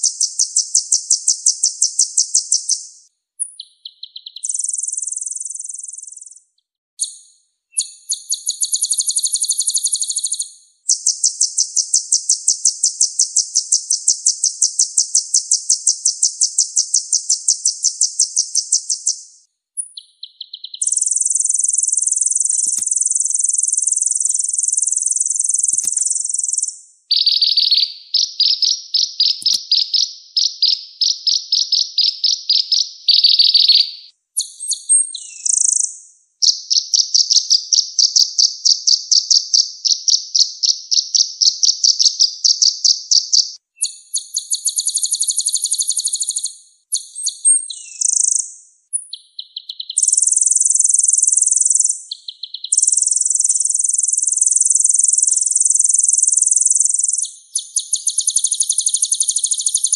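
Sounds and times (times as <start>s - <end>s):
songbird trilling: 0.0s - 6.4s, 7.0s - 59.9s.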